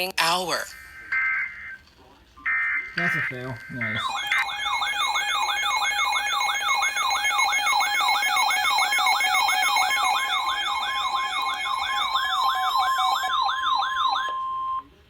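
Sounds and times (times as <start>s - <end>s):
steady electronic tones: 2.5s - 14.8s
whooping siren alert tone: 2.5s - 14.9s.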